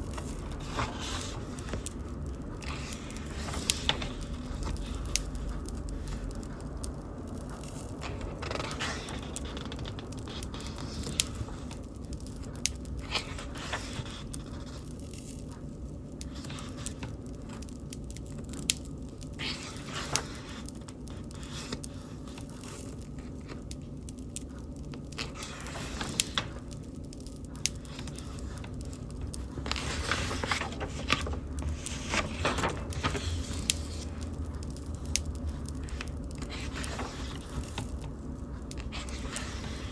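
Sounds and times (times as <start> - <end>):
bonfire crackling and popping: 0.0 - 39.9
low rumble of flames: 0.0 - 39.9.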